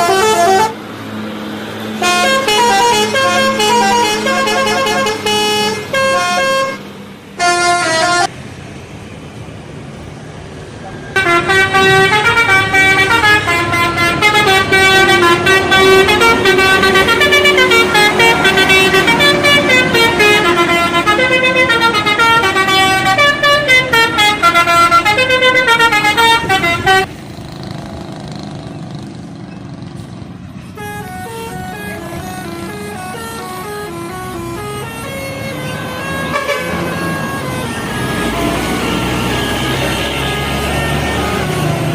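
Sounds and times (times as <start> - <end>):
air horns playing melody: 0.0 - 0.8, 2.0 - 6.8, 7.4 - 8.3, 11.2 - 27.1, 30.8 - 41.9.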